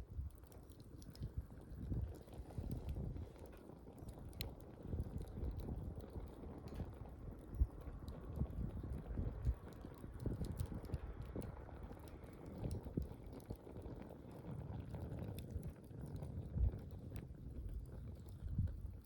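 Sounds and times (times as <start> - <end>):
campfire crackling and popping: 0.0 - 19.0
low uneven rumble: 0.0 - 19.0.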